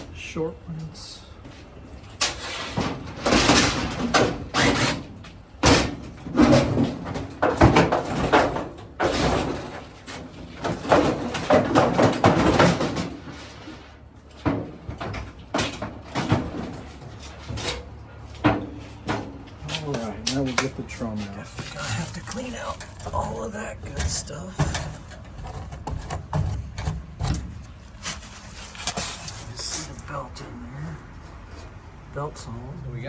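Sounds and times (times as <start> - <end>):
sheet metal panels banging and scraping: 2.0 - 30.0.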